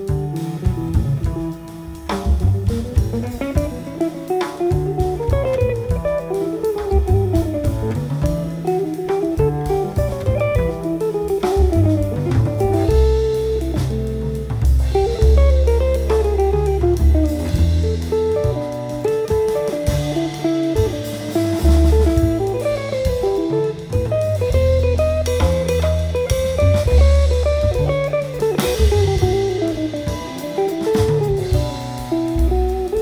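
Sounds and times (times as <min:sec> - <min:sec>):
acoustic bass: 0:00.0 - 0:33.0
drums: 0:00.0 - 0:33.0
guitar melody: 0:00.0 - 0:33.0.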